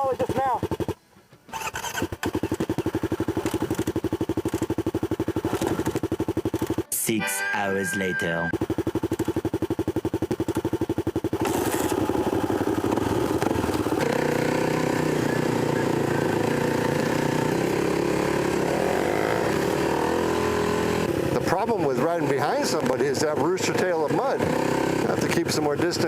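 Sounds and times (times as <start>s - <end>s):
dirt bike engine: 0.0s - 6.9s, 7.8s - 26.0s.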